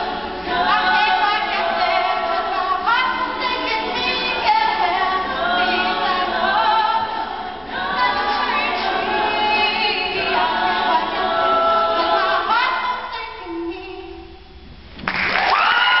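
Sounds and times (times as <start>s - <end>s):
women singing in harmony: 0.0s - 14.3s.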